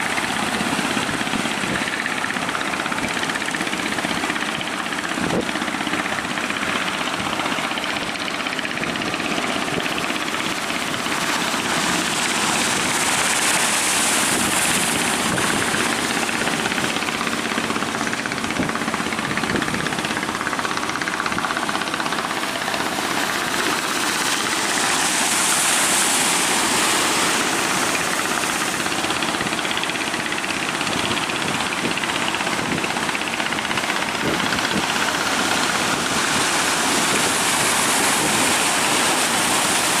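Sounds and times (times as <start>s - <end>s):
boat engine running: 0.0s - 40.0s
surf breaking waves: 0.0s - 40.0s.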